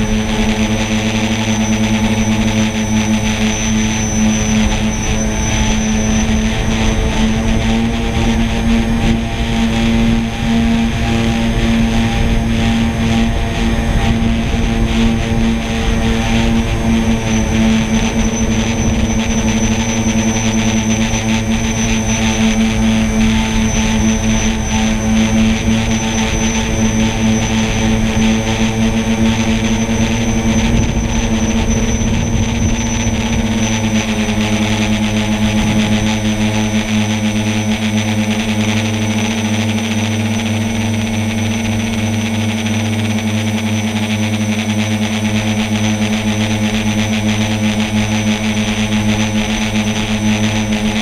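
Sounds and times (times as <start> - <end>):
drone propellers humming: 0.0 - 51.0.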